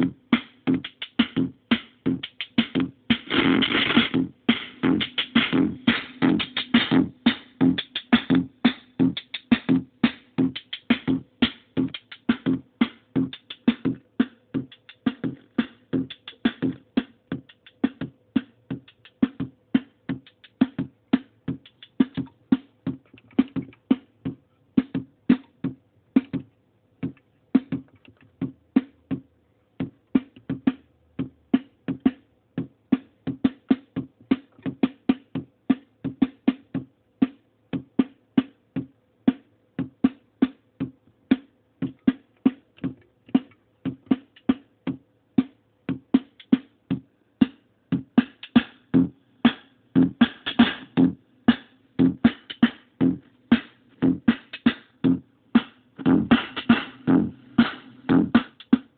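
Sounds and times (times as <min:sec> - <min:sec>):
distorted drum machine loop: 0:00.0 - 0:58.9.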